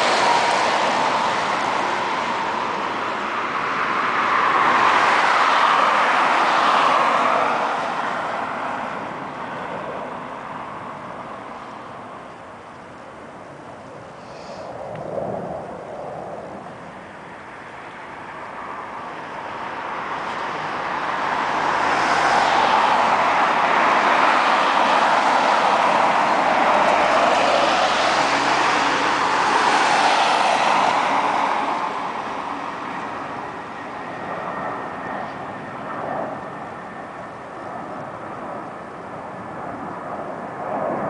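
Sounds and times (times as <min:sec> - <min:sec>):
jet aircraft passing: 0:00.0 - 0:41.0.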